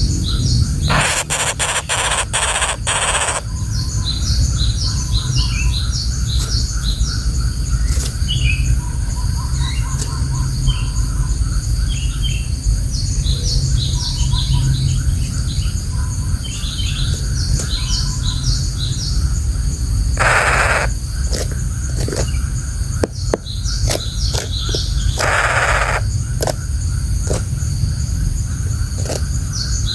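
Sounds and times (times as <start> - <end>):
birds chirping: 0.1 - 11.2, 14.7 - 29.9.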